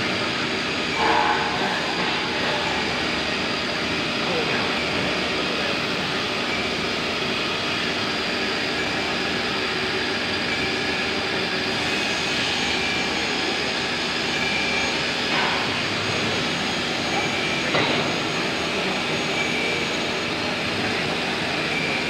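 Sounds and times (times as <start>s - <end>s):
higher machine whine: 0.0s - 22.0s
router machine whining: 0.0s - 22.0s.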